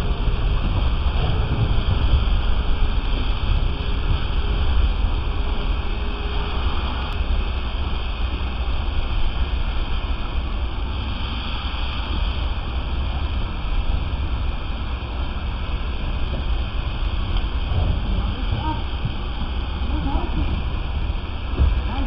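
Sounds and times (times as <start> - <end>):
deep even rumble: 0.0 - 22.0.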